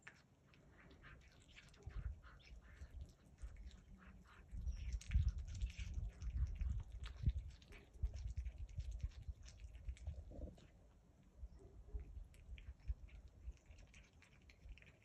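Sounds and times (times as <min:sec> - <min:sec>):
cat licking and chewing: 0:00.0 - 0:15.0.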